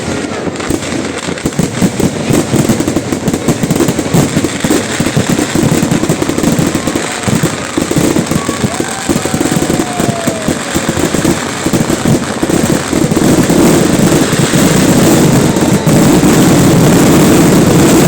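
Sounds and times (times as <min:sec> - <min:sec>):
fireworks barrage: 0:00.0 - 0:18.0.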